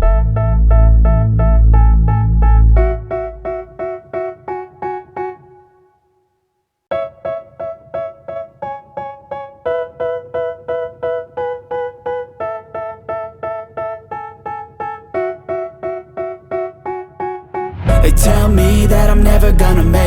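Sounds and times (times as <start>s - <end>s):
keyboard playing repeated chords: 0.0s - 5.8s, 6.9s - 20.0s.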